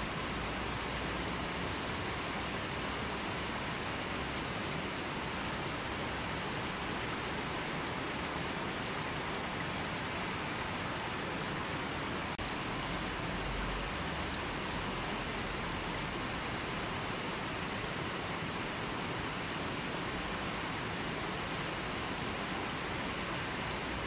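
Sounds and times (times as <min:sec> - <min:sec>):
river rushing over boulders: 0:00.0 - 0:24.0.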